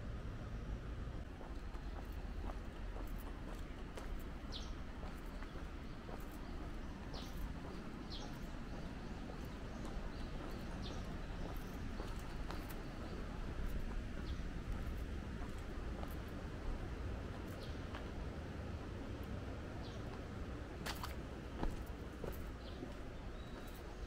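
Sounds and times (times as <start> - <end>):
low outdoor rumble: 0.0 - 24.0
small birds chirping: 0.6 - 24.0
faint footsteps: 1.1 - 24.0.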